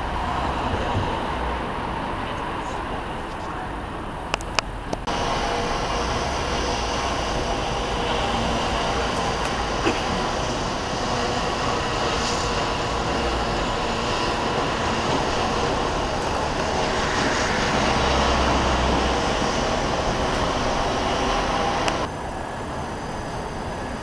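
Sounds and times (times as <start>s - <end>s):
building site noise: 0.0s - 24.0s
traffic rumble and hiss: 0.0s - 24.0s.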